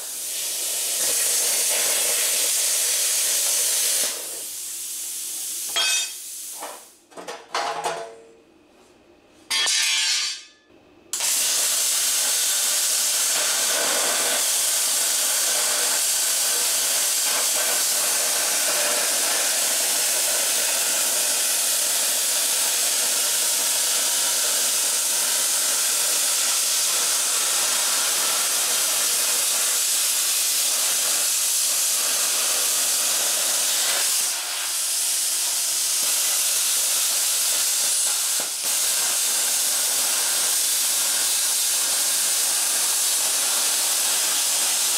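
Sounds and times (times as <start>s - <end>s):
plasma cutter hissing: 0.0s - 6.9s, 11.2s - 44.9s.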